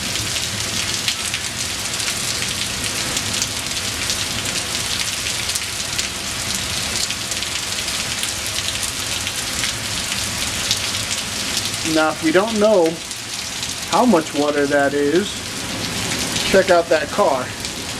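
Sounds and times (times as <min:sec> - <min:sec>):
heavy rain pouring: 0:00.0 - 0:17.9.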